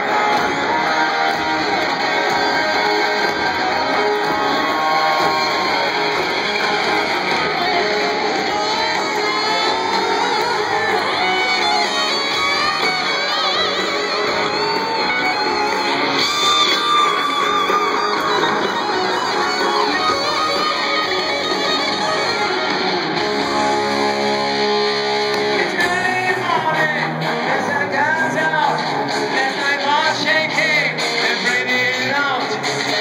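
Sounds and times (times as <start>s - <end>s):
electric guitars strumming: 0.0s - 33.0s
live rock band playing: 0.0s - 33.0s.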